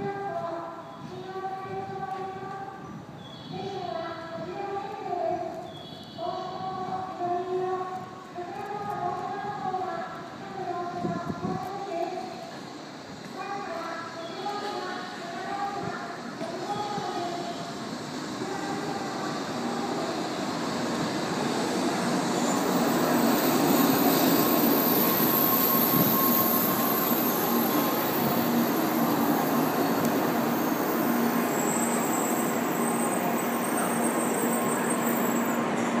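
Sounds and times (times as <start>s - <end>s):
train rumbling past: 6.2s - 36.0s.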